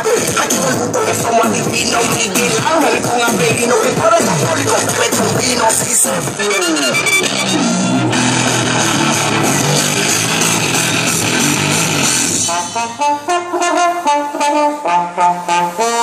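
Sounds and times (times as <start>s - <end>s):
loud music: 0.0s - 16.0s.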